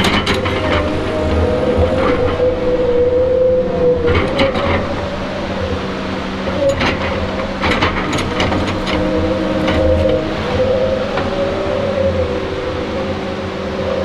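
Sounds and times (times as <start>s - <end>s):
log loader diesel drone: 0.0s - 14.0s.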